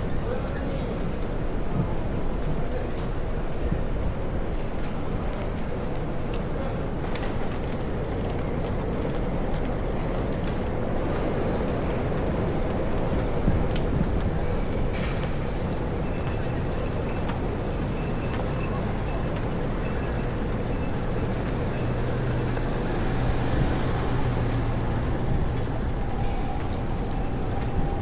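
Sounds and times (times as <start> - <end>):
faint street noise clicks: 0.0 - 28.0.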